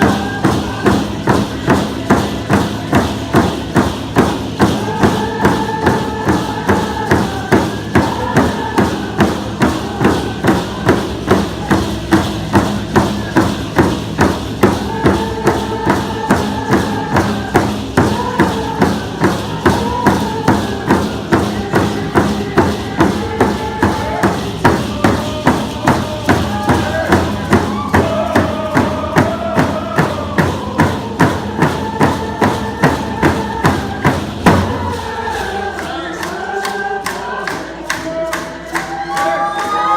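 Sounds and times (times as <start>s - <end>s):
group singing in unison: 0.0s - 39.9s
hand drums beating: 0.0s - 39.9s.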